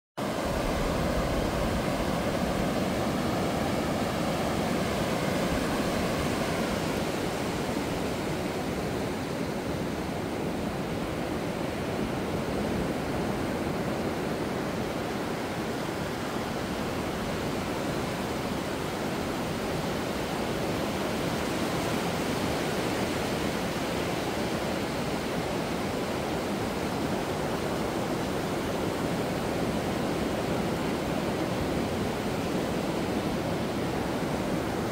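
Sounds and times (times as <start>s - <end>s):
waves breaking on sand: 0.2s - 34.9s.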